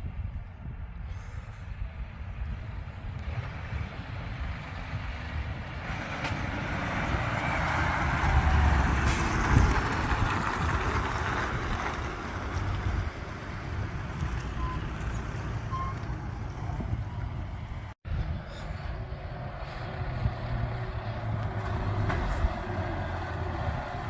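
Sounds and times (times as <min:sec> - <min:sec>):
truck passing: 0:01.1 - 0:24.0.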